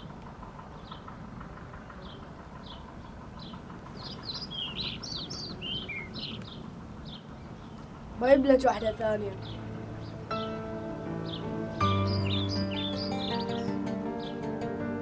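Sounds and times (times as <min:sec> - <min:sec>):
low background rumble: 0:00.0 - 0:15.0
bird chirping: 0:01.8 - 0:08.1, 0:08.7 - 0:14.6.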